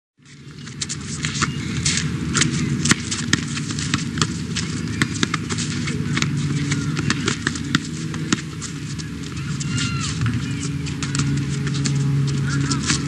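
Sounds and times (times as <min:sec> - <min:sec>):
low hum: 0:00.2 - 0:13.0
basketball bouncing: 0:00.7 - 0:13.0.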